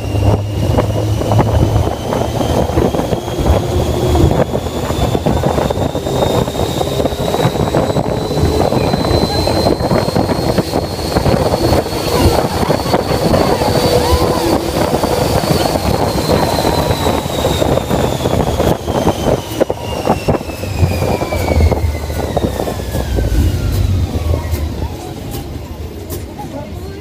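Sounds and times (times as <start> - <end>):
high whine falling in pitch: 0.0 - 26.2
wind rushing over microphone: 0.0 - 26.4
low rumble: 0.0 - 26.7.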